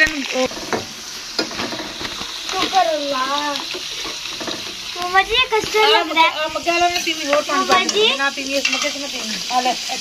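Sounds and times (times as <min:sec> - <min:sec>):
chips sizzling in hot oil: 0:00.0 - 0:10.0.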